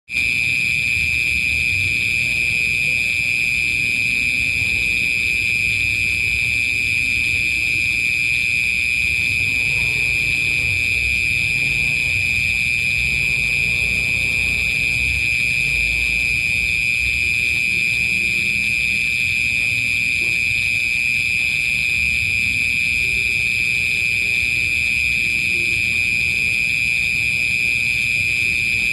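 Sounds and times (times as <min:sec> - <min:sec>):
crickets chirping: 0:00.1 - 0:28.9.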